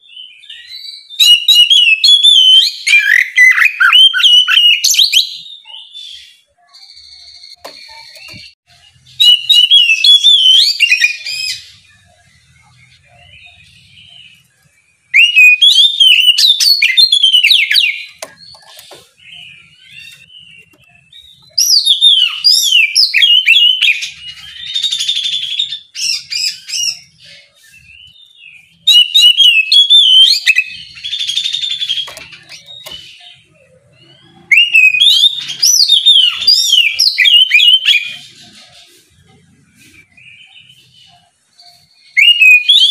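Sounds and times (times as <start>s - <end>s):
bird song with rasping rattles: 0.0s - 42.9s.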